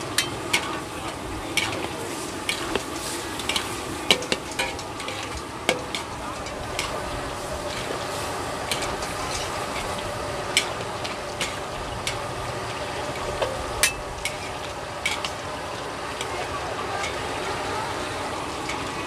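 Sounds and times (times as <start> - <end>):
metal spatulas clinking on wok: 0.0 - 12.4, 13.3 - 15.4, 16.2 - 17.3
stir-fry sizzling in a wok: 0.0 - 19.0.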